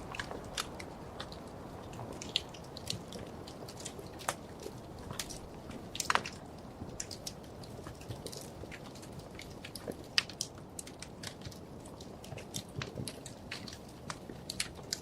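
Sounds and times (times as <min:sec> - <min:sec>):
low steady hiss: 0:00.0 - 0:15.0
wood fire crackling and popping: 0:00.0 - 0:15.0.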